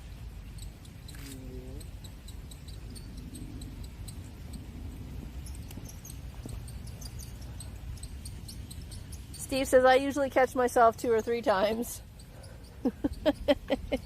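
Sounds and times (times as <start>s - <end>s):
insects chirping: 0.0s - 14.0s
steady low rumble: 0.0s - 14.0s.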